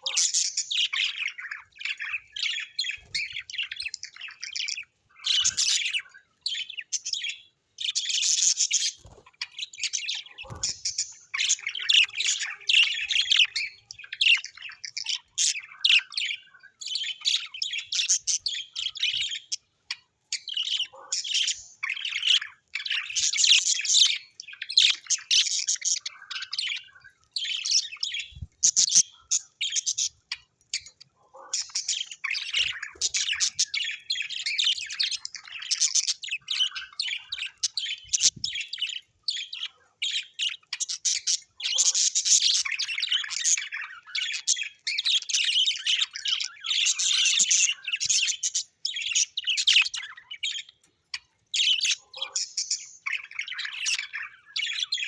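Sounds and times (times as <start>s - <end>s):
birds chirping and chattering: 0.0s - 55.0s.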